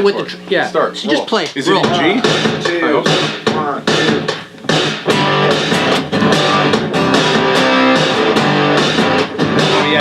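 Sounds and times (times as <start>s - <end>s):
fuzzy electric guitar strumming: 0.0s - 10.0s.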